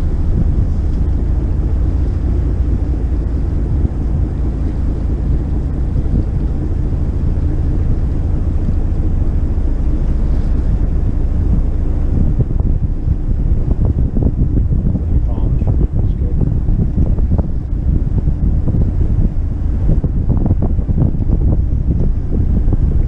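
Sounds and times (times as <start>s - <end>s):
motor yacht engine rumble: 0.0s - 23.0s
water rushing past hull: 0.0s - 23.0s
wind buffeting microphone: 0.0s - 23.0s.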